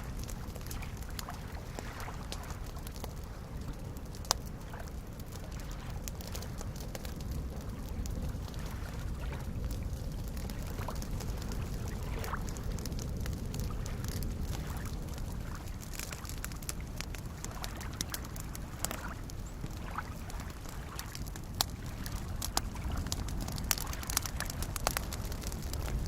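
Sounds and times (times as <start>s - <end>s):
campfire crackling and popping: 0.0s - 26.0s
small waves lapping at shore: 0.0s - 26.0s.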